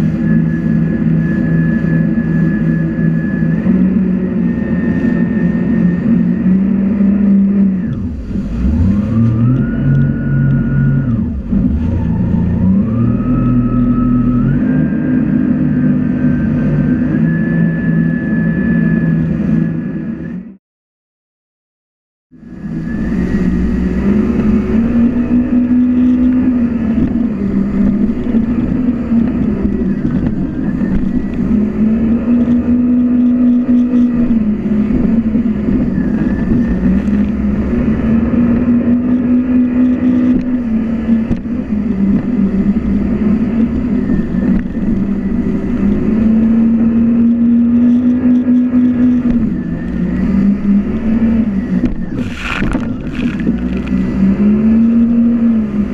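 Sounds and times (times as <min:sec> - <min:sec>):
jet ski engine revving: 0:00.0 - 0:20.6, 0:22.4 - 0:55.9
steady rushing noise: 0:00.0 - 0:20.6, 0:22.4 - 0:55.9.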